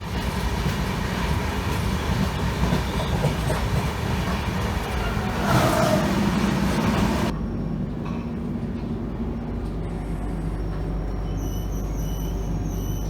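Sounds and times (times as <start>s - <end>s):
train wheel and track noise: 0.0s - 13.0s.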